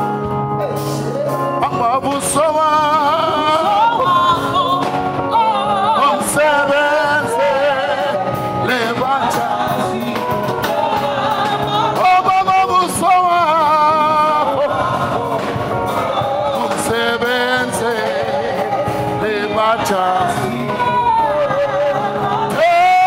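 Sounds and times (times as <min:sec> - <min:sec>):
gospel song with vibrato singing: 0:00.0 - 0:23.0.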